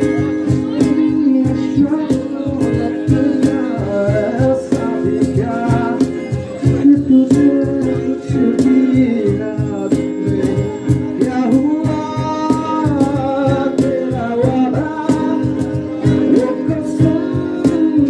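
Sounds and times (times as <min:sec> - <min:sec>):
guitars strumming chords: 0:00.0 - 0:18.0
person singing: 0:00.0 - 0:18.0
steady beat: 0:00.0 - 0:18.0.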